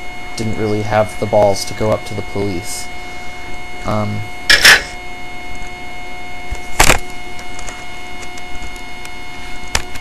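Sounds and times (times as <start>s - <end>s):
electronic hiss with high whine: 0.0s - 9.9s.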